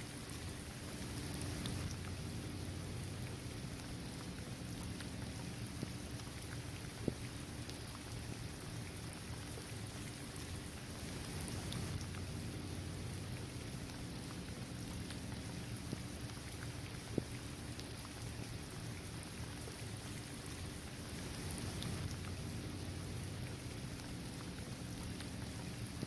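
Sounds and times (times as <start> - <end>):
steady rain falling: 0.0 - 26.0
raindrops ticking: 0.2 - 9.2, 10.3 - 26.0.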